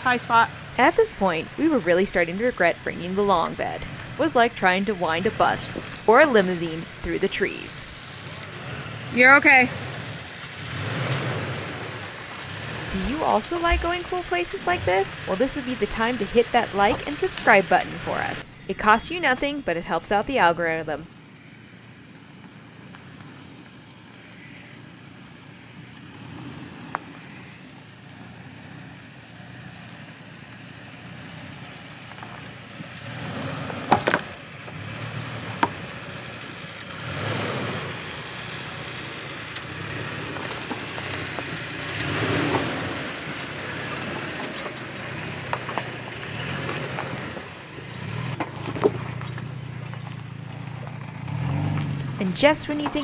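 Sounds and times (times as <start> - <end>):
truck engine low hum: 0.0 - 53.0.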